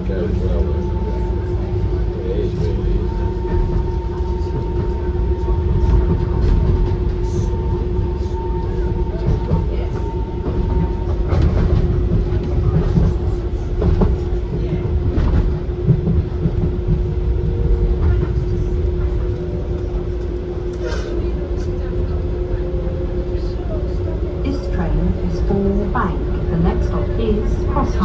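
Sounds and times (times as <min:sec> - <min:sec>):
train interior rumble: 0:00.0 - 0:28.0.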